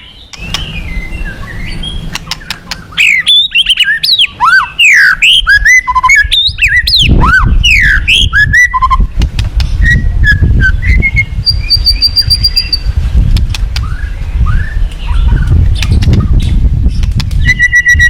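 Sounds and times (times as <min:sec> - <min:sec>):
bird singing whistled phrases: 0:00.0 - 0:09.1, 0:09.7 - 0:12.9, 0:13.8 - 0:16.5, 0:17.4 - 0:18.0.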